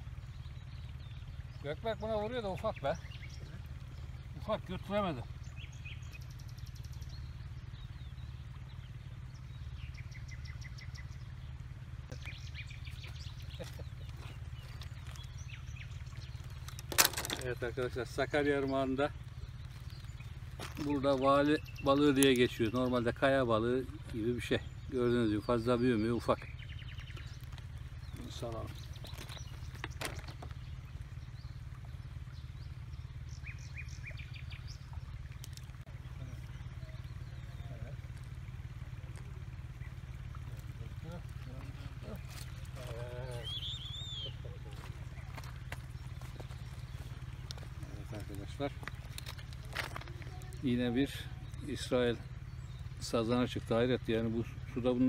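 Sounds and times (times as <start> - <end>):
low outdoor rumble: 0.0 - 55.0
songbirds chirping: 0.0 - 55.0.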